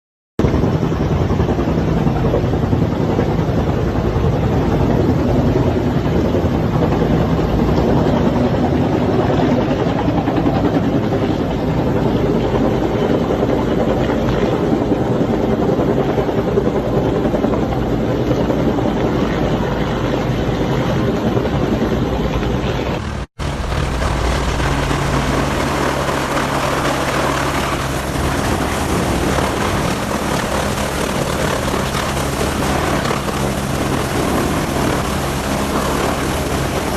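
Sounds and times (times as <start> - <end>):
helicopter engine and rotor: 0.4 - 36.9.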